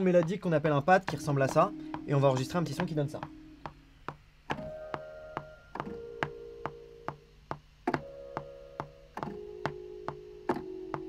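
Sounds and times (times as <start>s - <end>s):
soft synth pad chords: 1.2s - 11.0s.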